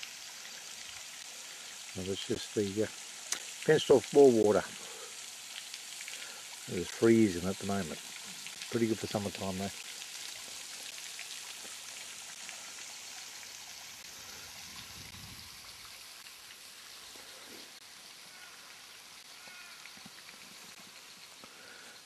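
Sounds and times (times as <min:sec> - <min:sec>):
faint hiss: 0:00.0 - 0:22.0.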